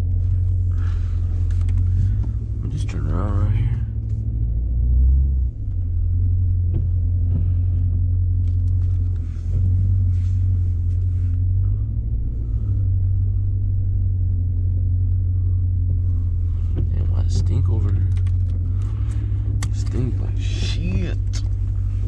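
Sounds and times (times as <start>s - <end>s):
car engine rumble: 0.0s - 22.0s
road noise inside car: 0.0s - 22.0s.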